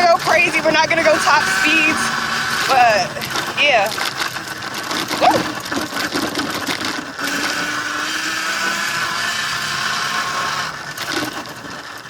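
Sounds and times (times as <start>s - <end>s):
electric motorbike motor whining: 0.0s - 12.0s.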